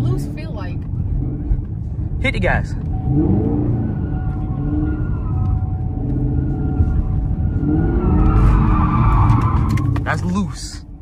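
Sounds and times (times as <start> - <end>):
car engine running under throttle: 0.0 - 11.0.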